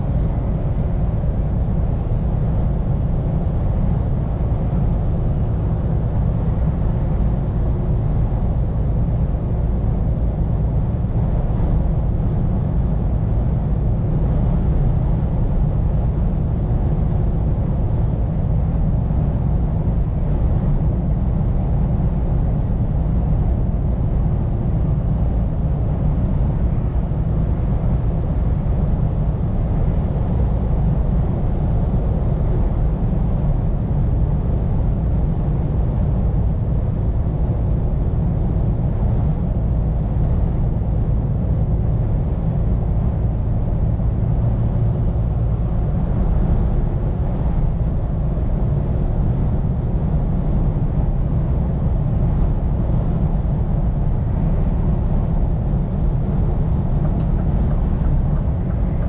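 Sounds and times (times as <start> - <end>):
truck engine and road drone: 0.0 - 59.0.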